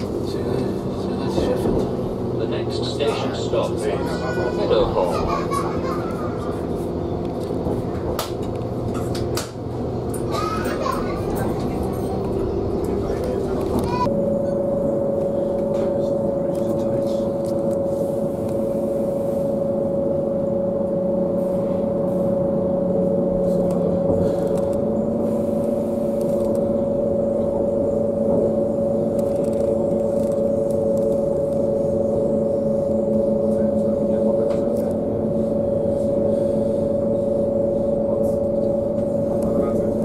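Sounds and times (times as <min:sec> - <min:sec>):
constant whining hum: 0:00.0 - 0:40.0
train interior drone and rumble: 0:00.0 - 0:40.0.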